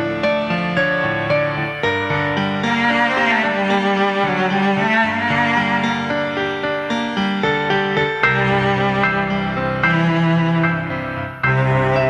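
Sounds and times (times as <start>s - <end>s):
slow sad instrumental music: 0.0s - 12.0s.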